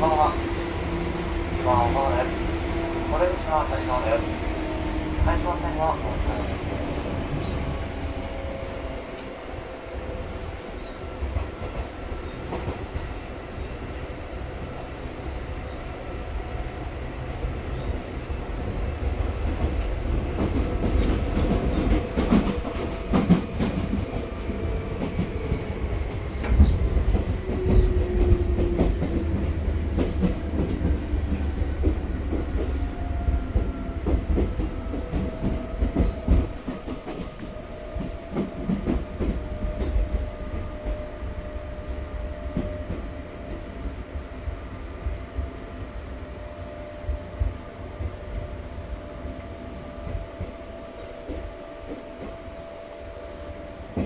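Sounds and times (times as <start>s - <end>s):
low train rumble: 0.0s - 54.0s.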